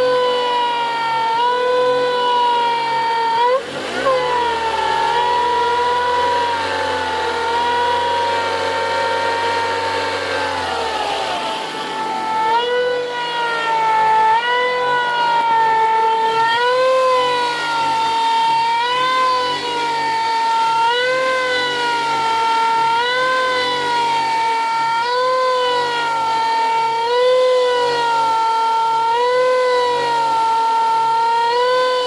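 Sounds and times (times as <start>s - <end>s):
engine high wavering whistle: 0.0s - 32.0s
low hum: 1.0s - 29.6s.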